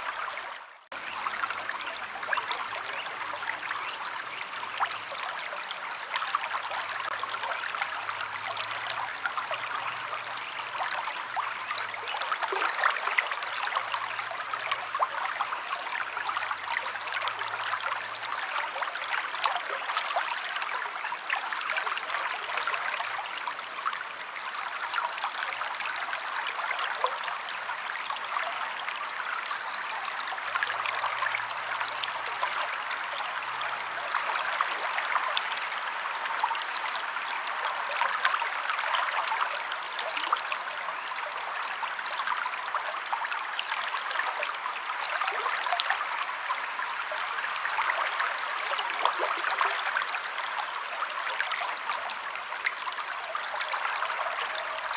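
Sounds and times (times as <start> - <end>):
stream water flowing over rocks: 0.0 - 54.9.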